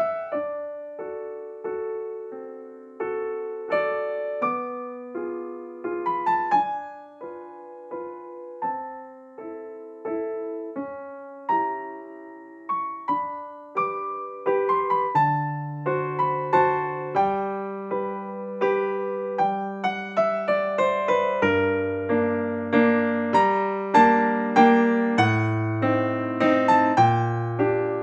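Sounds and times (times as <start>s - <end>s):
slow gentle piano music: 0.0s - 28.0s.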